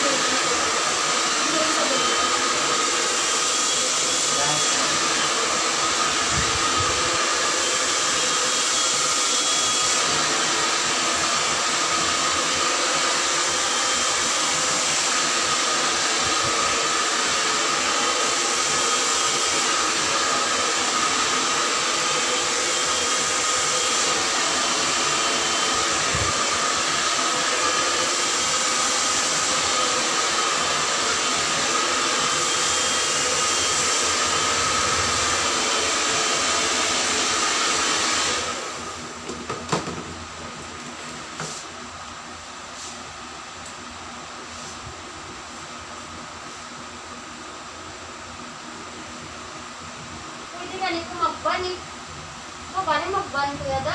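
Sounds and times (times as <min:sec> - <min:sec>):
hair dryer running: 0:00.0 - 0:53.9.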